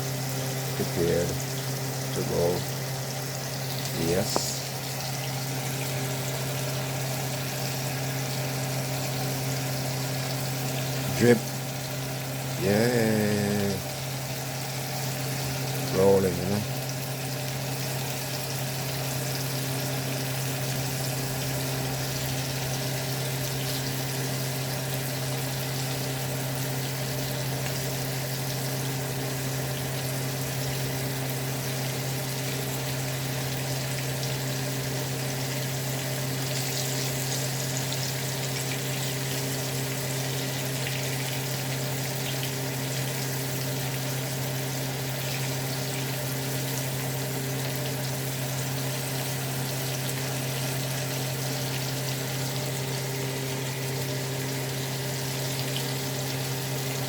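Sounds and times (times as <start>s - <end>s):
food sizzling in frying oil: 0.0s - 57.0s
low electrical hum: 0.0s - 57.0s.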